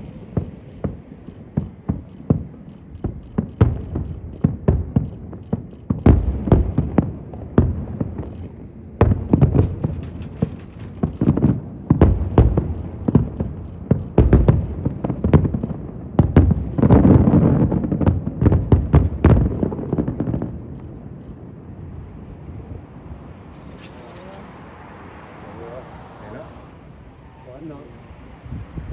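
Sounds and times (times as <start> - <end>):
fireworks bangs and booms: 0.0 - 28.9.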